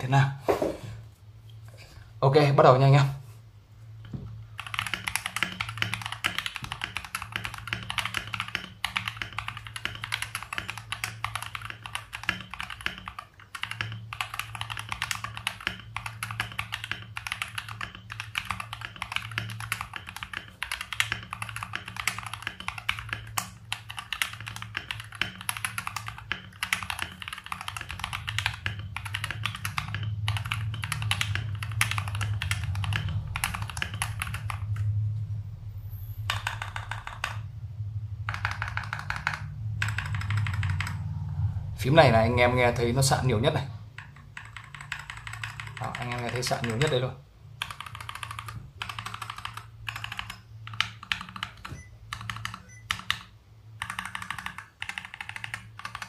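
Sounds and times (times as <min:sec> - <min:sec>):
mechanical keyboard typing: 0:04.5 - 0:34.9, 0:36.2 - 0:37.5, 0:38.2 - 0:41.1, 0:42.6 - 0:56.0.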